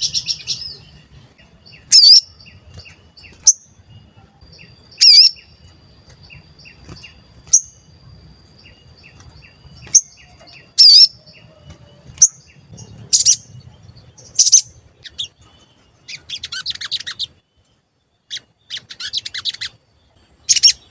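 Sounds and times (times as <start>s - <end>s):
bird chattering: 0.0s - 17.4s, 18.3s - 19.8s, 20.5s - 20.9s
bird chirping: 0.0s - 20.9s.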